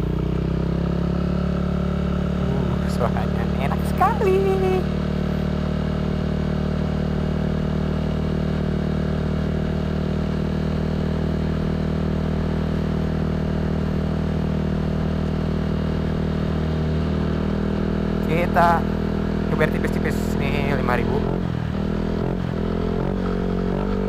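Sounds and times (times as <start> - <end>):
scooter engine running steadily: 0.0 - 24.0.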